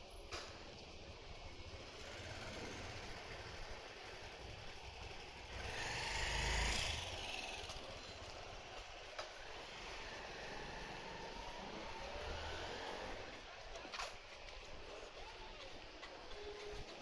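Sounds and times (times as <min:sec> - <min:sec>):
street background: 0:00.0 - 0:17.0.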